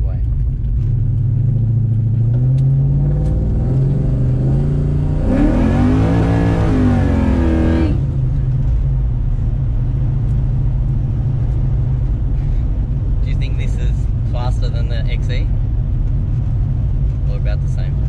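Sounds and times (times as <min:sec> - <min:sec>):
car engine accelerating: 0:00.2 - 0:18.0.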